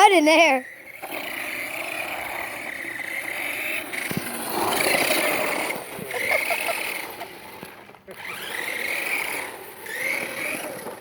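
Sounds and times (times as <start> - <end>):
toy truck motor whining: 0.0 - 11.0.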